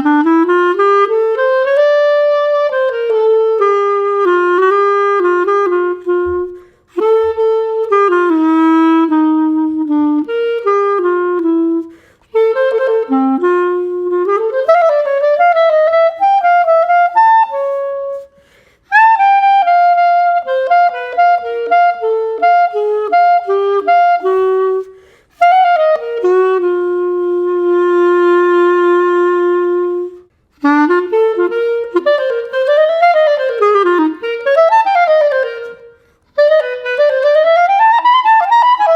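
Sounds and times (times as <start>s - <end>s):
clarinet playing melody: 0.0s - 38.9s.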